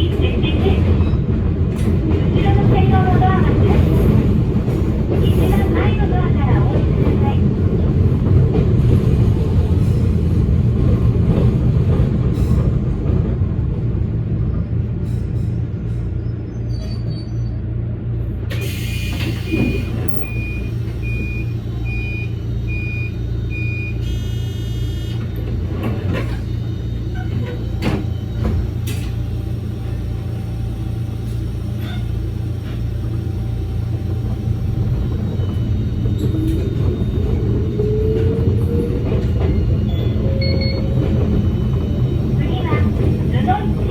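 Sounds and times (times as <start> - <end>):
electric train rumbling: 0.0 - 43.9.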